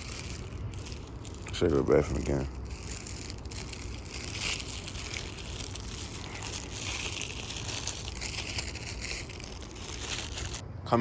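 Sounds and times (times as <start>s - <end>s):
crackling rustling noise: 0.0s - 10.6s.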